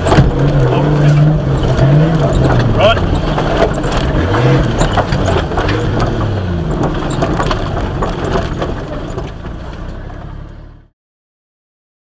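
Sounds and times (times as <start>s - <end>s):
clicks and knocks from rough track: 0.0s - 10.6s
engine revving inside cab: 0.0s - 10.9s.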